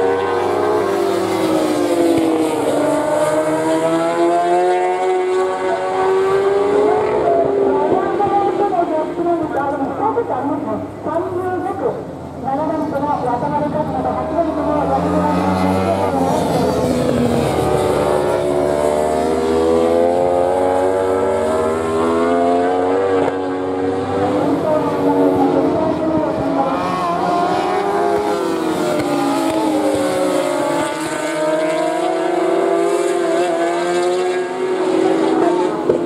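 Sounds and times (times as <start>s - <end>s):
motorbike engines racing: 0.0s - 36.0s.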